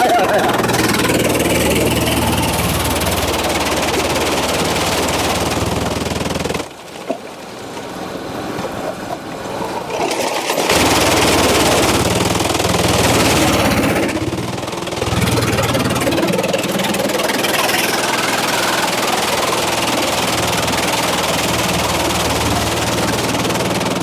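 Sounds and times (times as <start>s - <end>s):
loud mechanical noise: 0.0s - 6.8s, 9.8s - 24.0s
engine drone: 0.0s - 7.0s, 7.6s - 24.0s.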